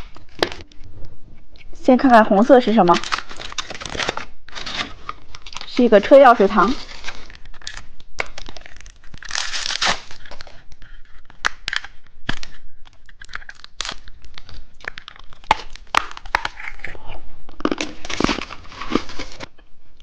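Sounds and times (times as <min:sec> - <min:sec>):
plastic packaging crinkling and tearing: 0:00.0 - 0:00.8, 0:02.6 - 0:19.5.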